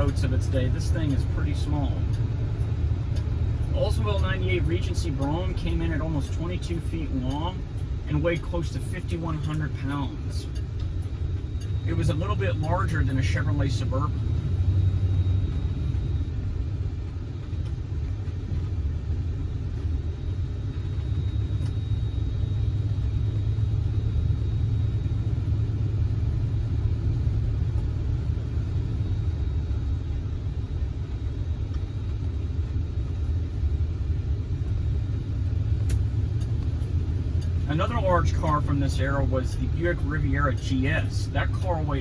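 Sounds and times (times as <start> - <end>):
car engine rumbling: 0.0 - 42.0
road noise: 0.0 - 42.0.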